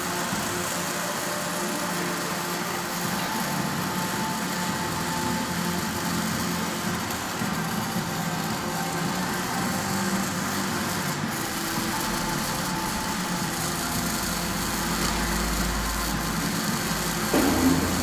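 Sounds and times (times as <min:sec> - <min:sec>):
engine droning with hiss: 0:00.0 - 0:18.0.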